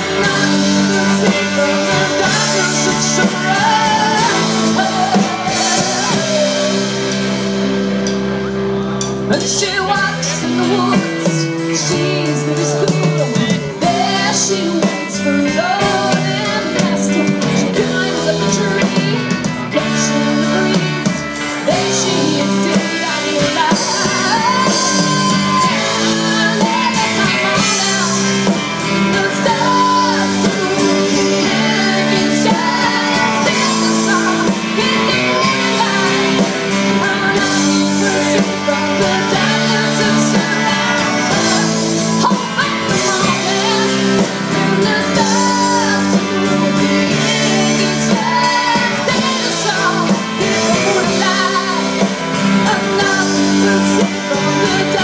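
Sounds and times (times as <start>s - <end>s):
woman singing: 0.0s - 7.3s, 9.3s - 55.0s
drums: 0.0s - 55.0s
electric guitars: 0.0s - 55.0s.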